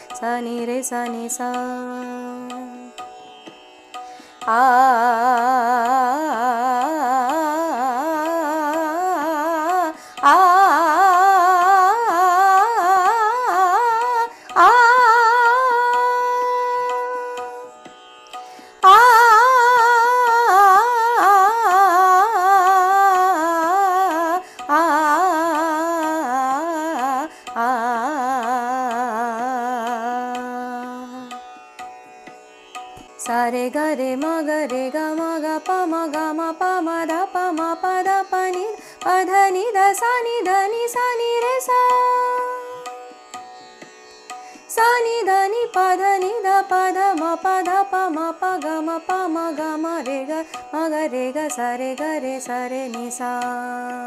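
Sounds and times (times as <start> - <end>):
indian classical melodic runs: 0.0 - 54.0.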